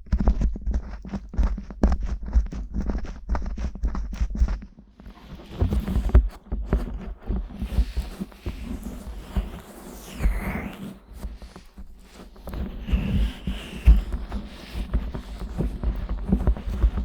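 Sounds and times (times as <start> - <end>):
soft deep thumps on microphone: 0.0 - 9.6, 11.2 - 17.0
scratchy rubbing and rustling: 0.0 - 17.0.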